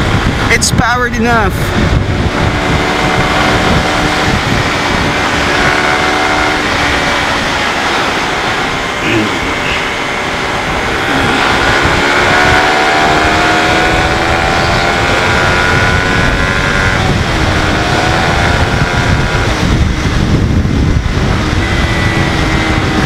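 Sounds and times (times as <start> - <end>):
motorcycle engine accelerating: 0.0 - 23.0
wind buffeting microphone: 0.0 - 23.0.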